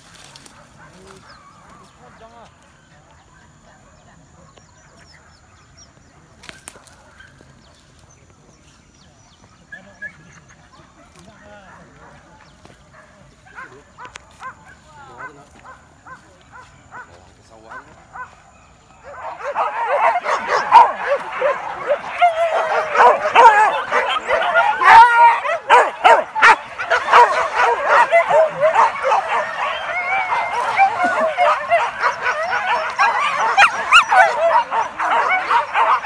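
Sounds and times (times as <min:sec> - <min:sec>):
pack of dogs barking: 0:00.0 - 0:02.7, 0:09.6 - 0:36.0.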